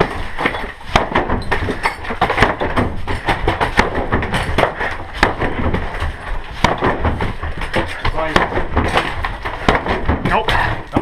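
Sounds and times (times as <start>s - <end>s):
sharp clicks and knocks: 0.0s - 11.0s.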